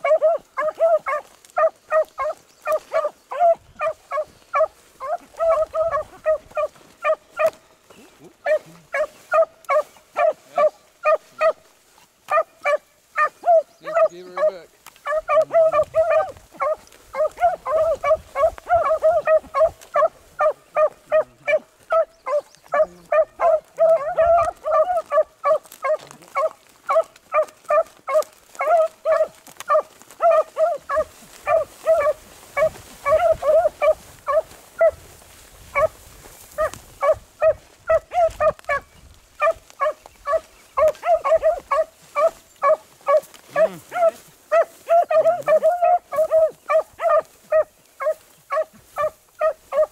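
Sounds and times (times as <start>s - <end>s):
dogs baying and yelping: 0.0s - 49.9s.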